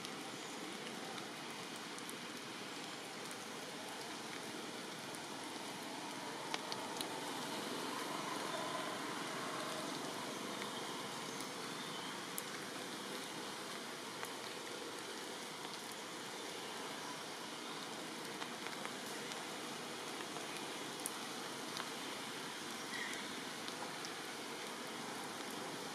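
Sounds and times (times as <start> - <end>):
single raindrops ticking: 0.0 - 16.1, 17.8 - 25.8
steady rain: 0.0 - 25.9.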